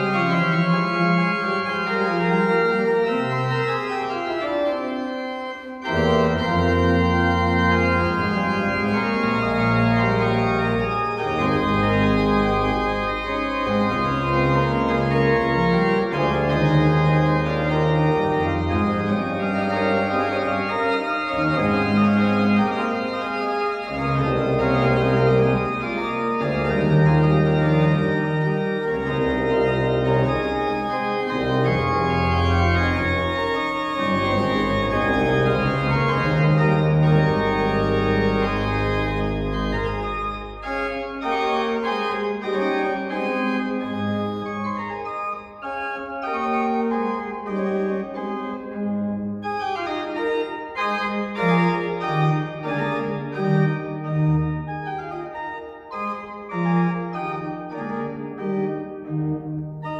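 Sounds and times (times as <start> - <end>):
deep organ pedal bass: 0.0 - 59.9
pipe organ playing chords: 0.0 - 59.9.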